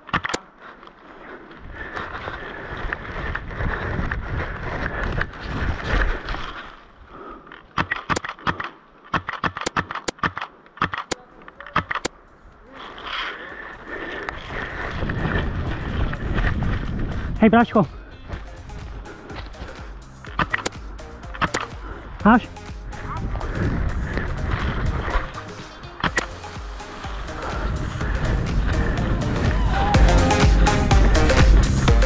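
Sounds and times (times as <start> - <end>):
scraping crunching movement: 0.0 - 32.0.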